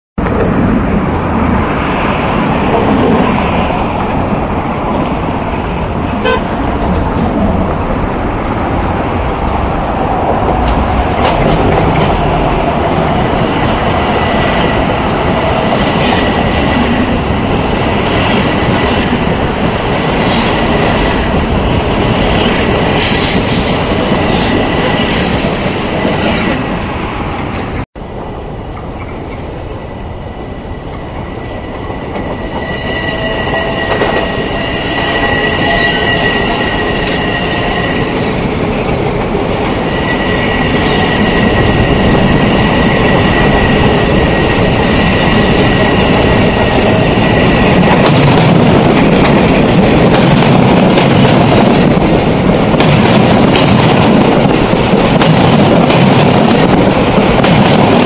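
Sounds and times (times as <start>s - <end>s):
train wheels rumbling on rail: 0.2s - 58.0s.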